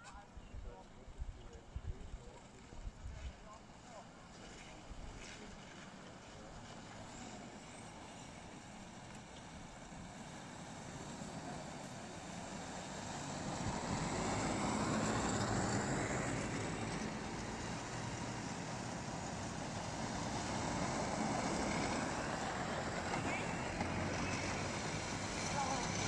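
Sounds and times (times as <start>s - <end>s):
electric quad bikes driving on snow: 0.0s - 26.0s.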